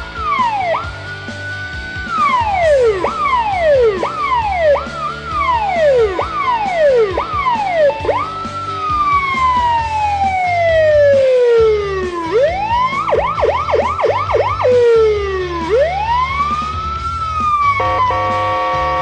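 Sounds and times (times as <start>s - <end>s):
electronic siren wail and yelp: 0.0s - 1.0s, 2.0s - 19.0s.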